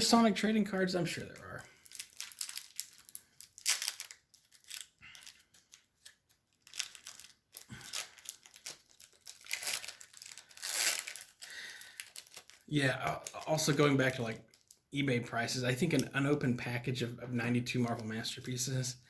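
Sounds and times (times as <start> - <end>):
card wrappers crinkling: 0.0 - 16.5.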